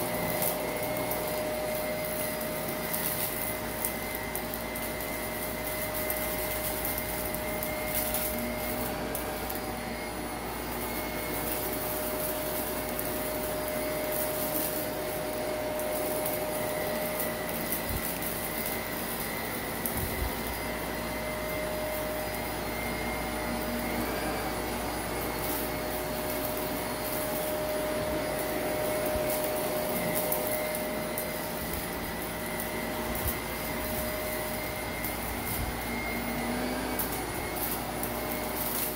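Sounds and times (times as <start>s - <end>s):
crackles of grit picked up: 0.0s - 38.9s
vacuum cleaner motor whine: 0.0s - 38.9s.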